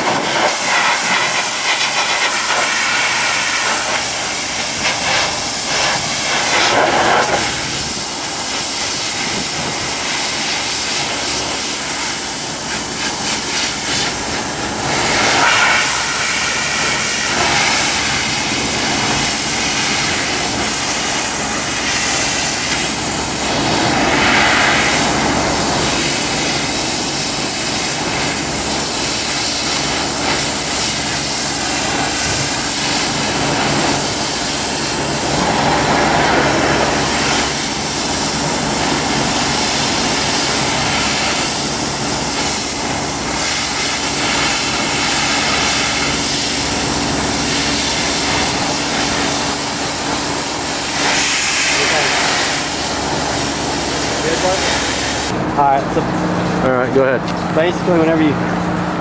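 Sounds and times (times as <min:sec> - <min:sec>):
pressure washer spraying hiss: 0:00.0 - 0:55.4.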